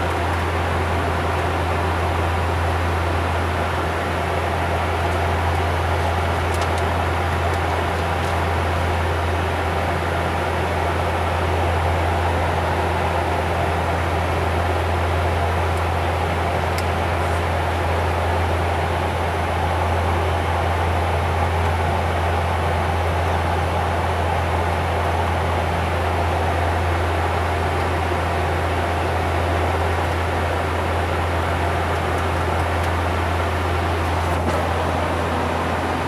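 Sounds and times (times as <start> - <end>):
turboprop engines humming: 0.0 - 36.0.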